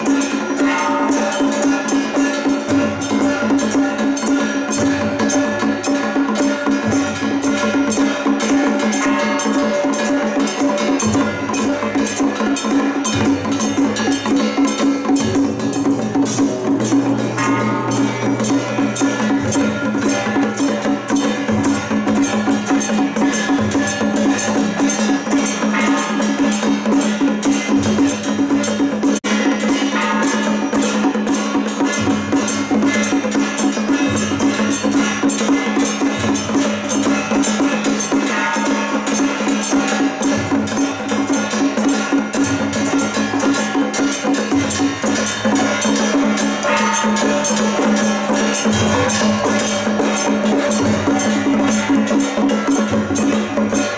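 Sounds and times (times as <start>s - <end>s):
fast dense percussion: 0.0s - 53.9s.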